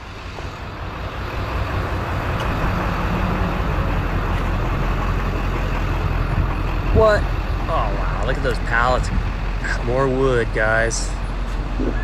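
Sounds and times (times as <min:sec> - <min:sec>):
road noise: 0:00.0 - 0:12.0
truck engine driving off: 0:00.0 - 0:12.0.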